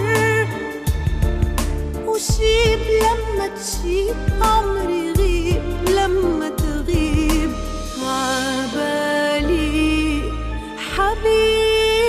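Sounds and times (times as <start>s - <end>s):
bass and keyboard backing: 0.0s - 12.0s.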